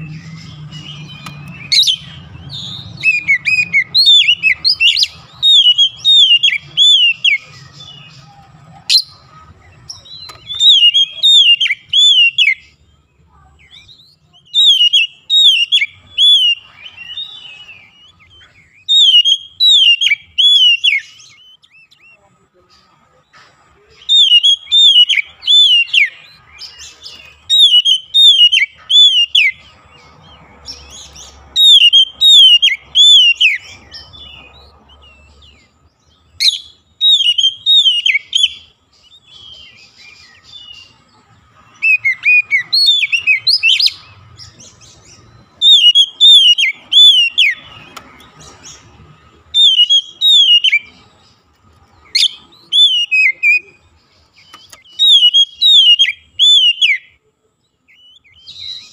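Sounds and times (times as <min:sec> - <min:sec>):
bird singing whistled phrases: 0:00.0 - 0:08.1, 0:09.8 - 0:12.8, 0:13.6 - 0:22.1, 0:24.0 - 0:29.6, 0:31.2 - 0:35.7, 0:36.4 - 0:40.9, 0:41.8 - 0:48.0, 0:49.5 - 0:51.0, 0:52.0 - 0:57.2, 0:57.9 - 0:58.9.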